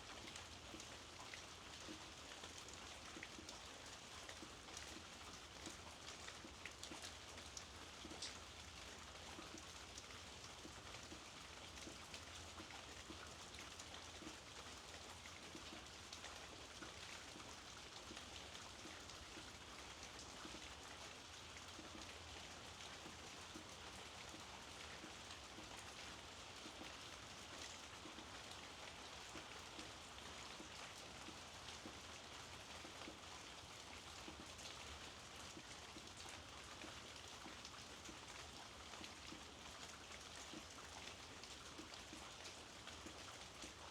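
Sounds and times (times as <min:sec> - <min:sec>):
soft rainfall: 0:00.0 - 0:43.9.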